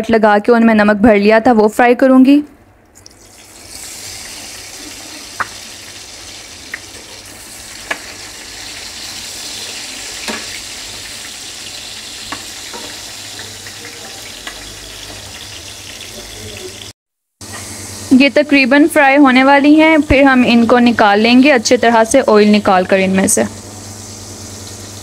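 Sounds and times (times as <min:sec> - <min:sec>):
chillies sizzling in hot oil: 0:03.1 - 0:25.0.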